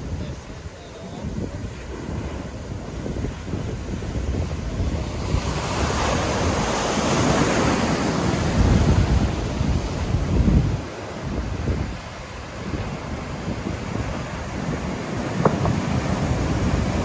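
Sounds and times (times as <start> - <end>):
ocean waves breaking: 0.0 - 17.0
wind buffeting microphone: 0.0 - 17.0.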